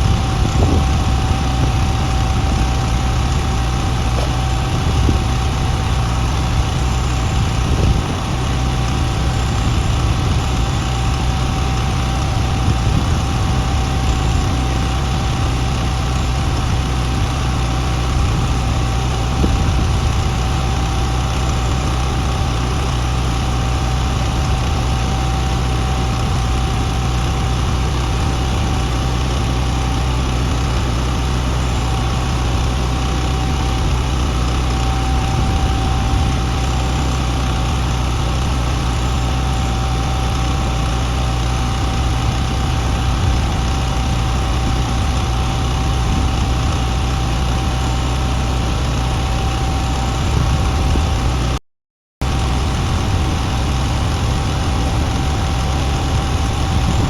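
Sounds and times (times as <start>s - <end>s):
heavy equipment engine idling: 0.0s - 51.6s, 52.2s - 57.0s
thin steady whine: 0.0s - 51.6s, 52.2s - 57.0s.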